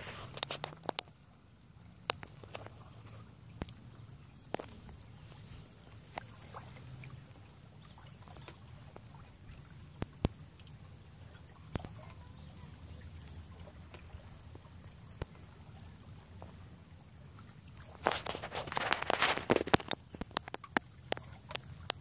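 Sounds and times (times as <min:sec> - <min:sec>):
water lapping against rocks: 0:00.0 - 0:22.0.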